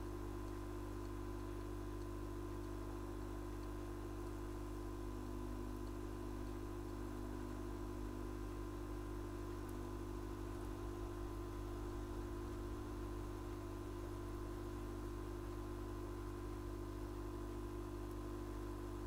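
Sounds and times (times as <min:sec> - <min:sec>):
electrical hum with tones: 0:00.0 - 0:19.0.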